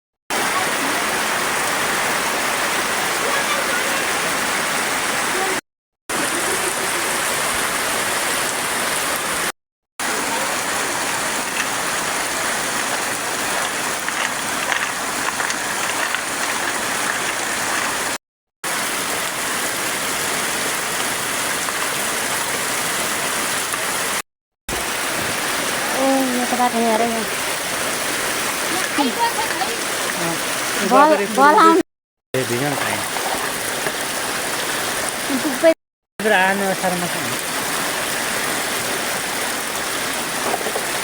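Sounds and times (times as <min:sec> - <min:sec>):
heavy rain: 0:00.3 - 0:31.8, 0:32.4 - 0:41.0
running water: 0:00.3 - 0:31.8, 0:32.4 - 0:41.0.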